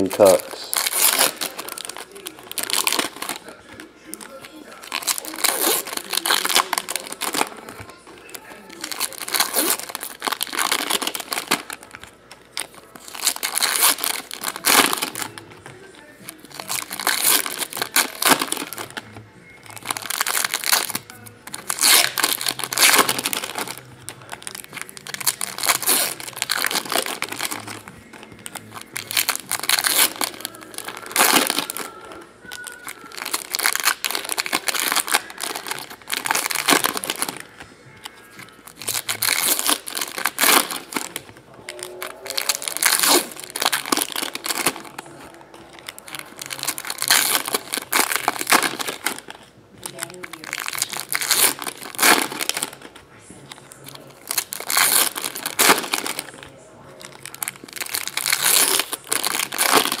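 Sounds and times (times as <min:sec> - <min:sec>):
foil wrappers tearing and crumpling: 0:00.0 - 1:00.0
music playing: 0:00.0 - 1:00.0.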